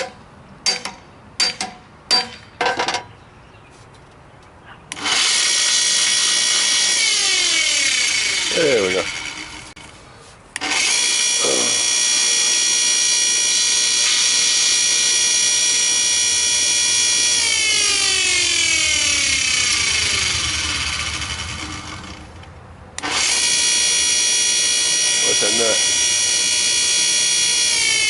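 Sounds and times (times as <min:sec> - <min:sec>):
bench grinder whining: 0:04.9 - 0:10.0, 0:10.6 - 0:28.0.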